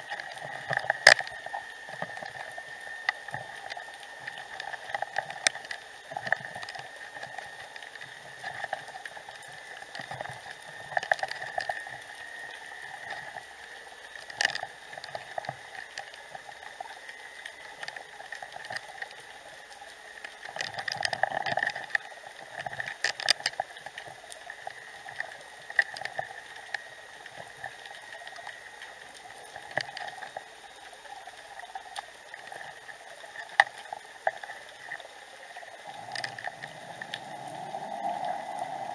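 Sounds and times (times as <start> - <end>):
sharp underwater clicks: 0.0 - 38.9
underwater crackling hiss: 0.0 - 38.9.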